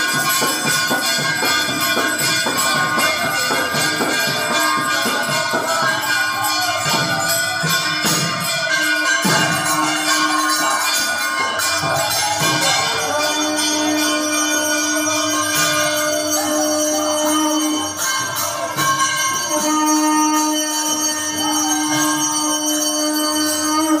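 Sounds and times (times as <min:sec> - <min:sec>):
bells ringing: 0:00.0 - 0:24.0
conch shell blasts: 0:00.0 - 0:24.0.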